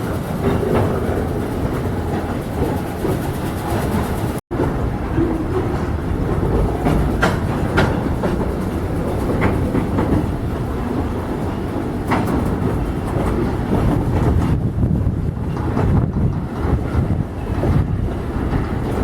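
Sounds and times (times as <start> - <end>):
train wheels rumbling on track: 0.0 - 19.0
wheels and couplers clanking: 0.0 - 19.0.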